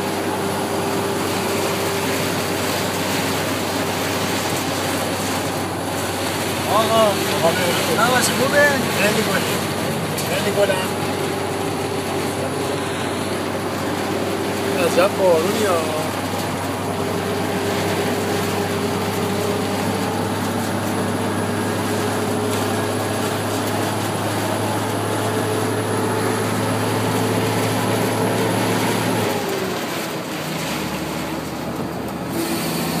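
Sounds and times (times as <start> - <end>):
road noise: 0.0 - 33.0
vehicle engine running: 0.0 - 33.0
heavy rain hissing: 0.1 - 31.6.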